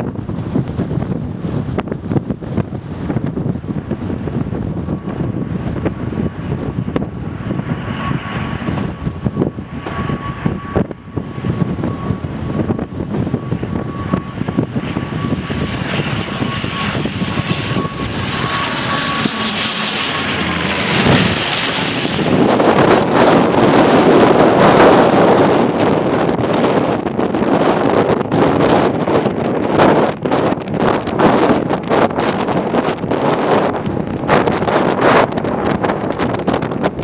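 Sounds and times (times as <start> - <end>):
turboprop plane engine drone: 0.0 - 37.0
wind buffeting microphone: 0.0 - 37.0.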